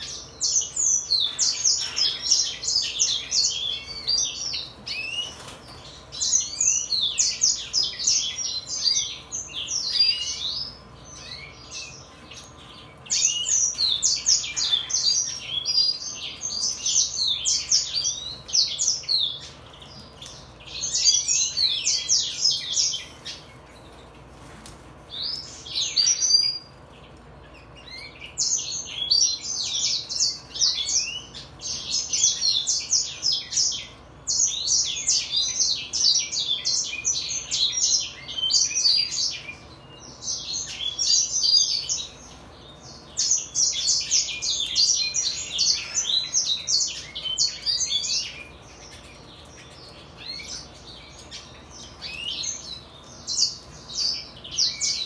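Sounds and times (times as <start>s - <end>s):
bird singing twittering trills: 0.0s - 55.0s.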